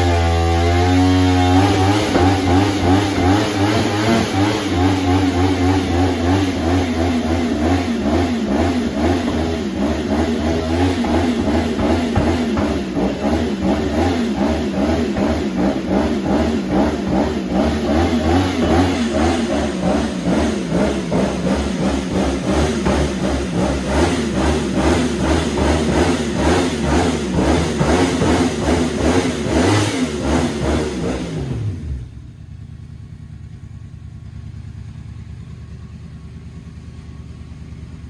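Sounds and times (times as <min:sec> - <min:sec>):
motorcycle engine revving: 0:00.0 - 0:32.6.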